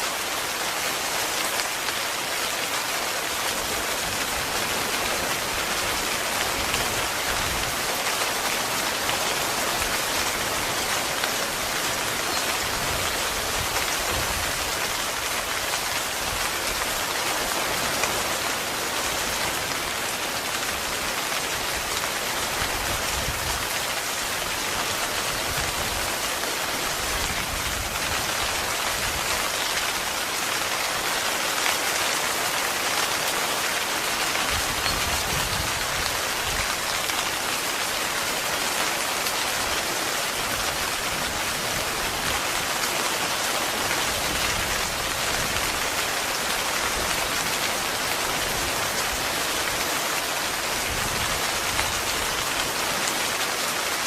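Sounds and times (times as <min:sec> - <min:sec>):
heavy rain on a tent: 0:00.0 - 0:54.0.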